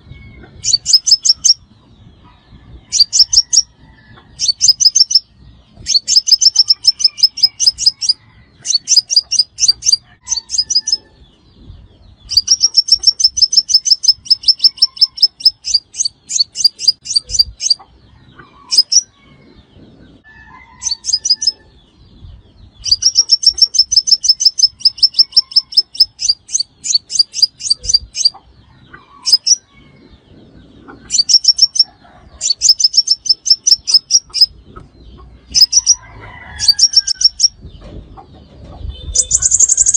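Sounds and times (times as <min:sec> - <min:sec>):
bird high sharp chirps: 0:00.2 - 0:02.1, 0:02.9 - 0:03.7, 0:04.3 - 0:19.5, 0:20.7 - 0:36.0, 0:36.6 - 0:39.9.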